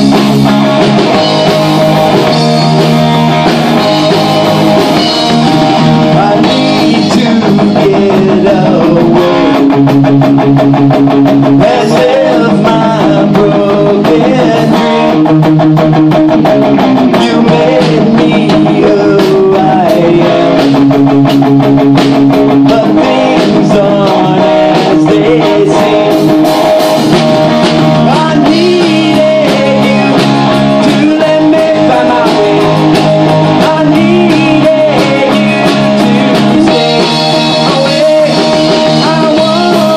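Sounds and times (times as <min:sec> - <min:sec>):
bass guitar: 0:00.0 - 0:39.9
drum kit: 0:00.0 - 0:39.9
electric guitar through amplifier: 0:00.0 - 0:39.9.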